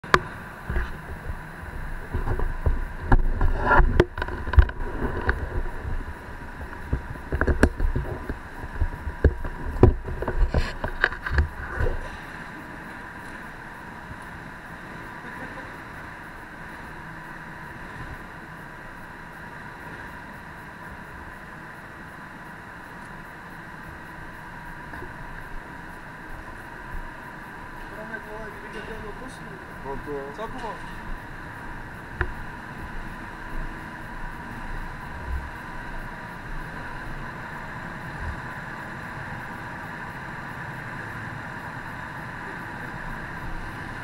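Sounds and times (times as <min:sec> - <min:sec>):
faint constant high tone: 0:00.0 - 0:44.0
steady hiss: 0:00.0 - 0:44.0.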